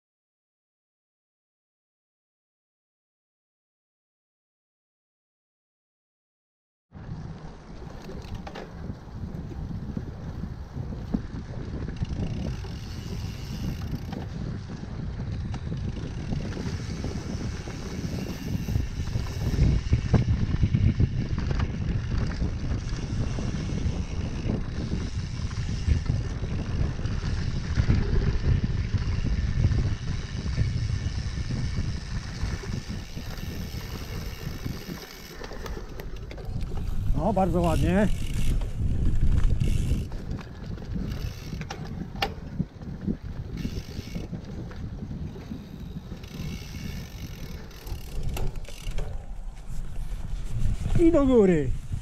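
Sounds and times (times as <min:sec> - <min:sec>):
tyres rumbling on dirt trail: 0:07.0 - 0:52.0
wind buffeting microphone: 0:07.0 - 0:52.0.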